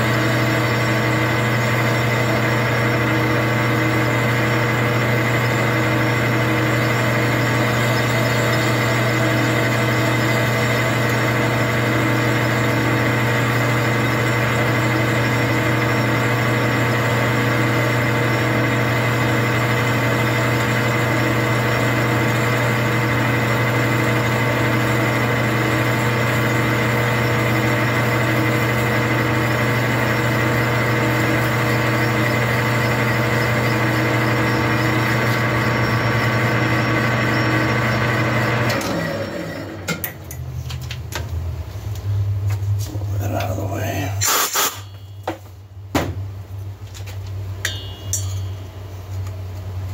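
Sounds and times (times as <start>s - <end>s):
metal lathe humming: 0.0s - 40.2s, 47.6s - 49.9s.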